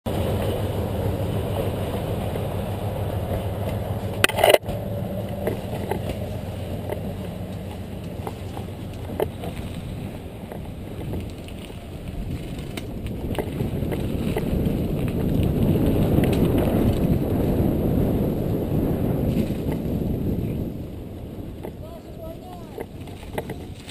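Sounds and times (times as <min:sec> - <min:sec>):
bike rattles and clicks: 0:00.1 - 0:23.9
bike tyres rumbling on dirt: 0:00.1 - 0:23.9.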